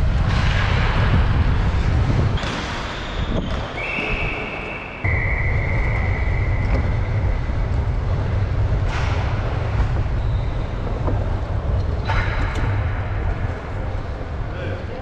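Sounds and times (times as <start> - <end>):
low rumble: 0.0 - 4.3, 5.0 - 15.0
wind rushing over microphone: 0.0 - 15.0.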